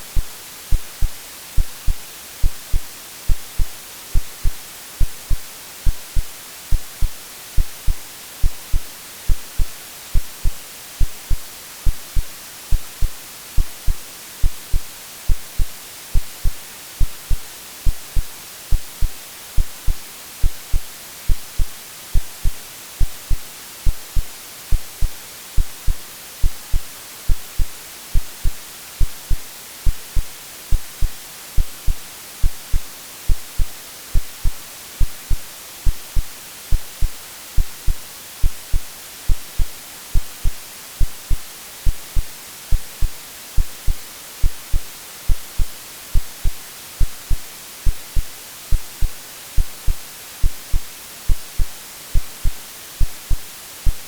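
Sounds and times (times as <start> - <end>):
white noise hiss: 0.0 - 54.0
heartbeat thumps: 0.1 - 54.0.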